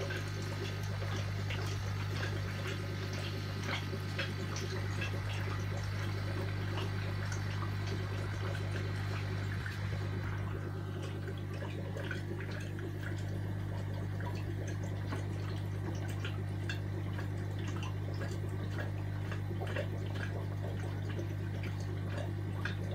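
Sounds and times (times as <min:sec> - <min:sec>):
low electrical hum: 0:00.0 - 0:22.9
water trickling and dripping: 0:00.0 - 0:22.9.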